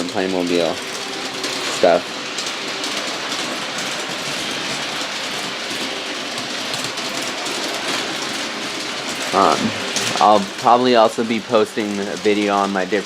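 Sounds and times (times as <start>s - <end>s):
toy train motor whir: 0.0s - 13.0s
wheels clicking on rails: 0.0s - 13.0s.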